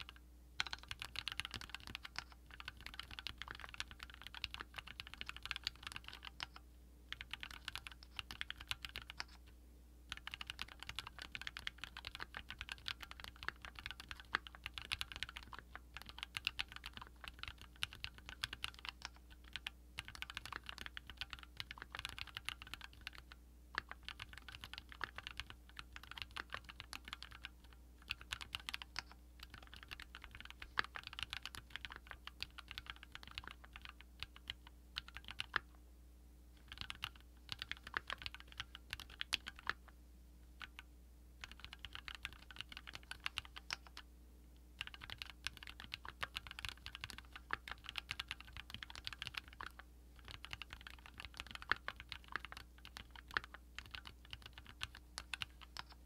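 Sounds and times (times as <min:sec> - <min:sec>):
mechanical keyboard typing: 0:00.0 - 0:09.4, 0:10.1 - 0:35.8, 0:36.6 - 0:39.9, 0:40.6 - 0:44.0, 0:44.8 - 0:56.0.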